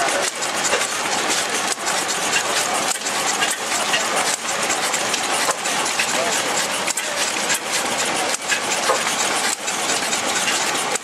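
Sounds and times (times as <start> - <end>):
oil engine running: 0.0 - 11.0.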